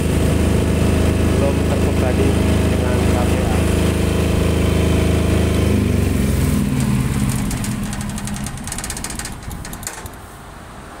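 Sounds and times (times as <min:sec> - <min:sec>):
diesel generator engine winding down: 0:00.0 - 0:10.3.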